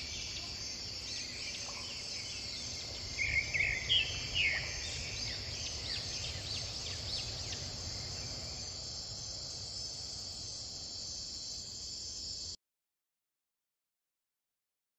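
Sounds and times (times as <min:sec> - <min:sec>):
high-pitched insect chorus: 0:00.0 - 0:12.6.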